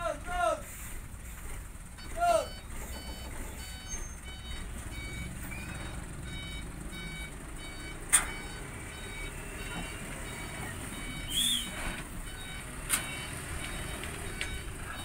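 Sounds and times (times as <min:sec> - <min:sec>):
low engine rumble: 0:00.0 - 0:15.0
truck reversing alarm beeping: 0:01.8 - 0:15.0.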